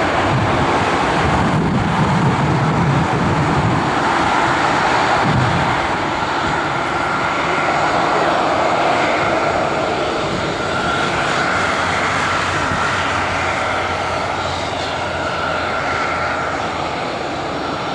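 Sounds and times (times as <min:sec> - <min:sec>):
jet engines taxiing: 0:00.0 - 0:17.9.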